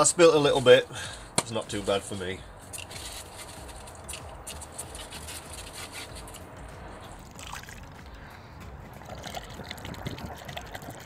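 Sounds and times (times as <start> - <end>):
fuel sloshing and trickling: 2.0 - 11.0.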